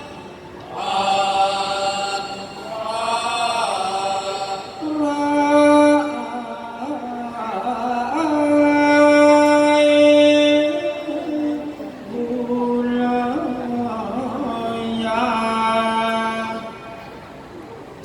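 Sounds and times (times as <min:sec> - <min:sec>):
chant in long wavering notes: 0:00.0 - 0:16.9.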